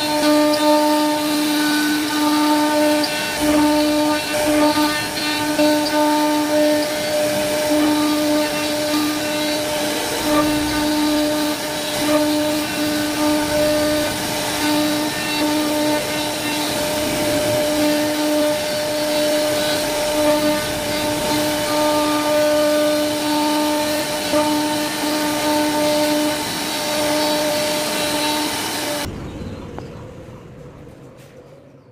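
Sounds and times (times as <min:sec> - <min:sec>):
router spindle whining: 0:00.0 - 0:29.1.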